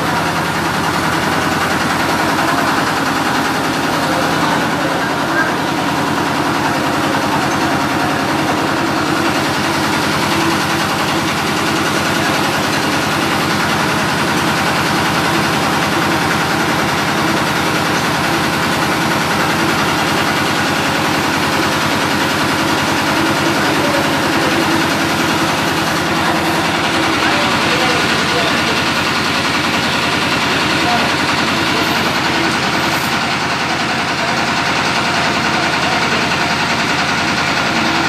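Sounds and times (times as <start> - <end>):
large engine idling: 0.0 - 38.0.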